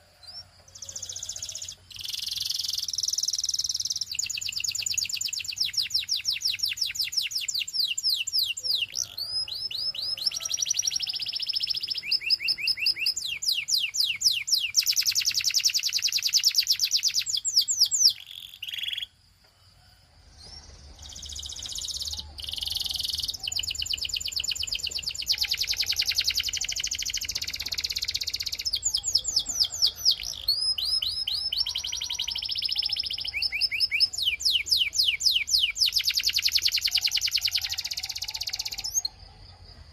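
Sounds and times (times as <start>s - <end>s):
canary singing trills: 0.0s - 19.2s, 20.3s - 39.6s.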